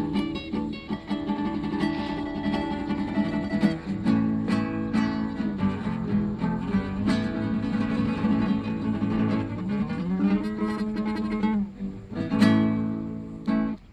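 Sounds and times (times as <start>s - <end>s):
fingerstyle acoustic guitar chords: 0.0s - 13.9s.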